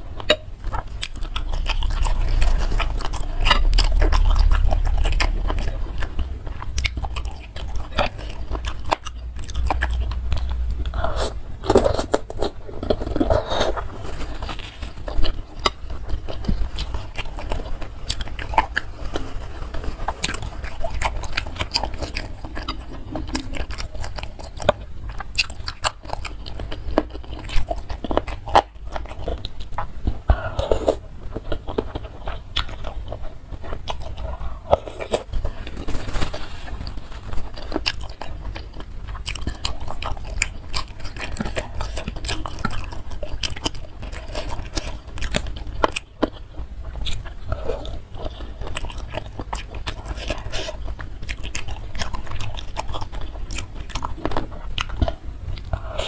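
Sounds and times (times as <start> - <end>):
person chewing noodles: 0.0 - 56.0.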